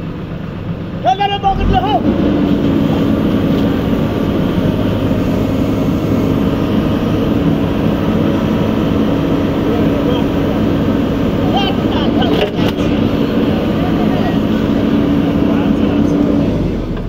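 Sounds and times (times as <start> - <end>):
diesel engine running at high revs: 0.0 - 17.0.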